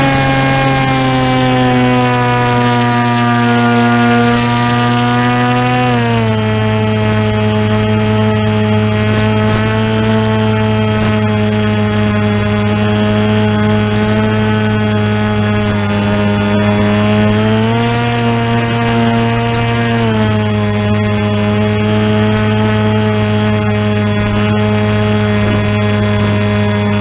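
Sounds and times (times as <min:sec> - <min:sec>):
model airplane motor and propeller: 0:00.0 - 0:27.0.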